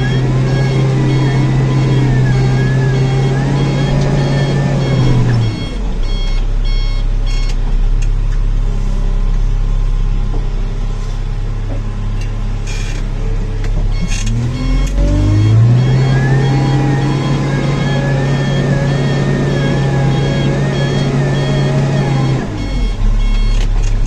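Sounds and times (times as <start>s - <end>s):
diesel engine idling and revving: 0.0s - 24.0s.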